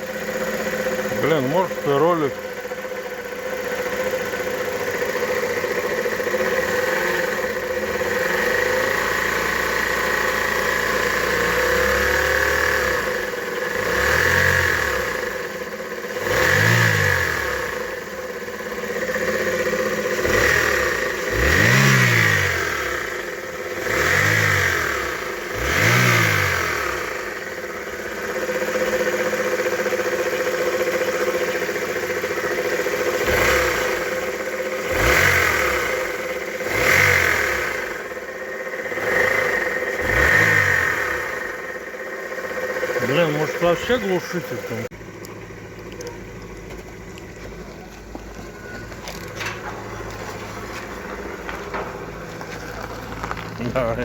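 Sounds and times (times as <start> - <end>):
car engine idling and revving: 0.0 - 54.0
engine knocking and rattling: 0.0 - 54.0.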